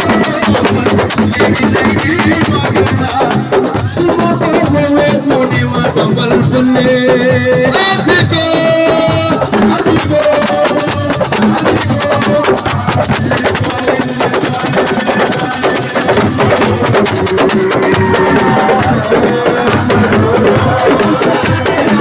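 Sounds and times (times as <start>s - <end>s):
fast hand drum percussion: 0.0s - 22.0s.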